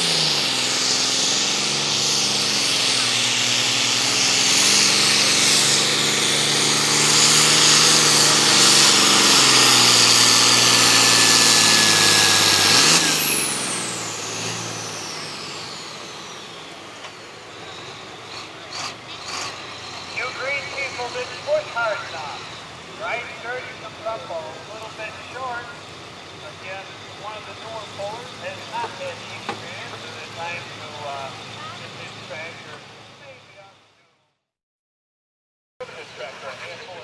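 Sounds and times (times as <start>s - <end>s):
turbo whine: 0.0s - 33.8s
tractor diesel engine at full throttle: 0.0s - 33.9s, 35.8s - 37.0s.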